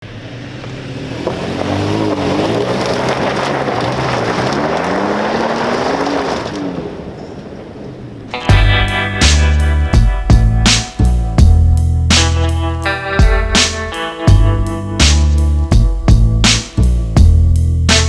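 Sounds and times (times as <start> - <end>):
road noise: 0.0 - 18.0
vehicle engine revving: 0.0 - 18.0.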